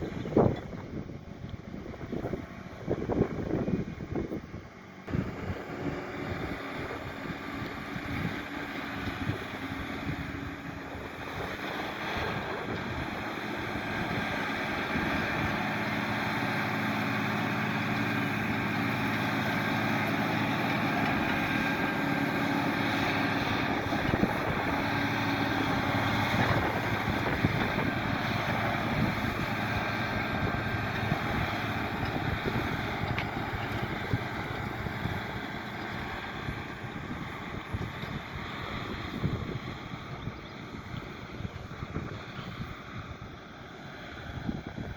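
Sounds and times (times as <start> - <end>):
tractor engine running under load: 0.0 - 44.9.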